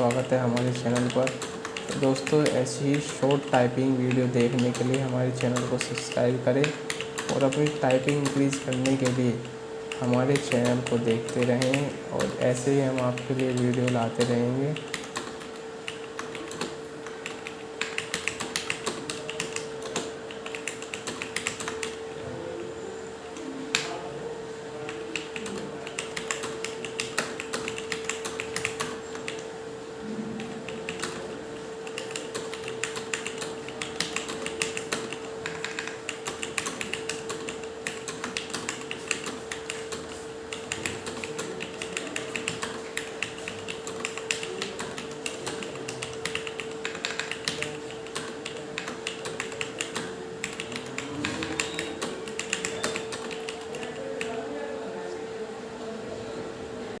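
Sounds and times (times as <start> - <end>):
fast keyboard typing: 0.0 - 22.1, 24.8 - 29.6, 30.4 - 54.4
steady hum: 0.0 - 57.0.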